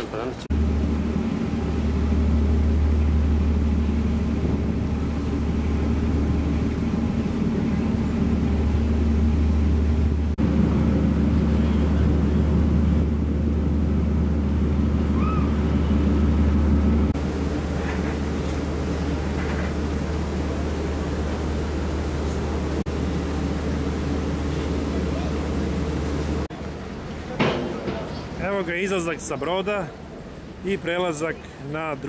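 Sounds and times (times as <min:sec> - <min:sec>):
ship engines humming: 0:00.0 - 0:32.0.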